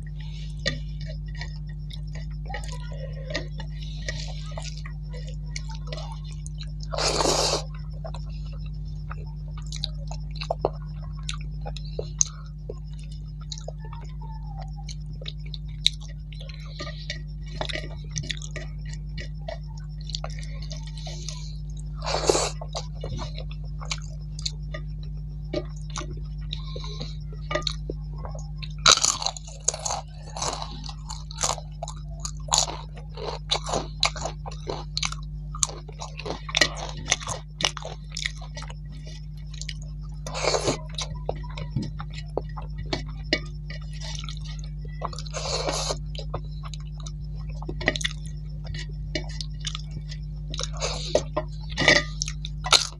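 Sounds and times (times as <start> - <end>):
soft chewing: 0.0 - 52.9
steady low hum: 0.0 - 52.9.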